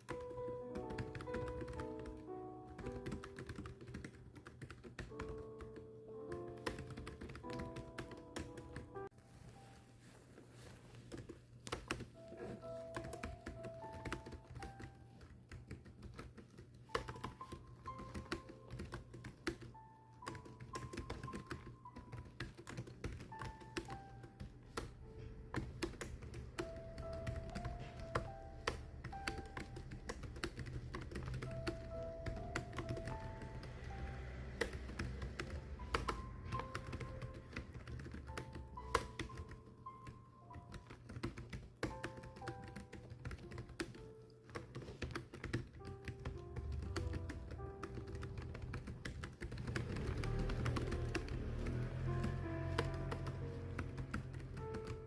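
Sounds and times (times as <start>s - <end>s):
keyboard typing clicks: 0.0s - 9.1s, 11.1s - 55.0s
slow background melody: 0.0s - 55.0s.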